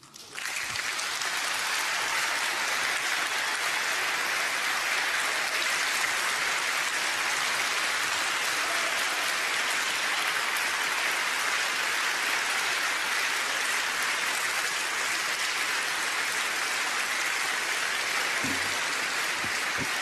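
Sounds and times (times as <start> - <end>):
large audience applauding: 0.0 - 20.0.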